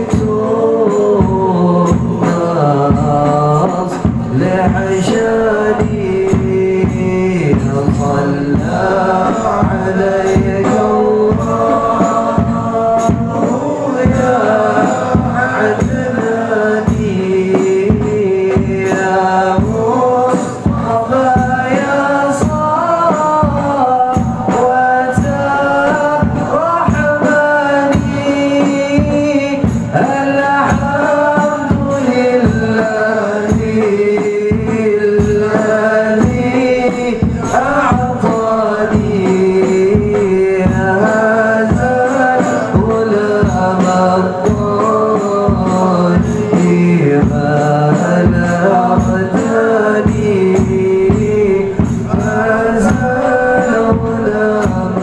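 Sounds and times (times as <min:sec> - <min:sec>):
hand-drum beat: 0:00.0 - 0:55.0
men singing devotional song: 0:00.0 - 0:55.0.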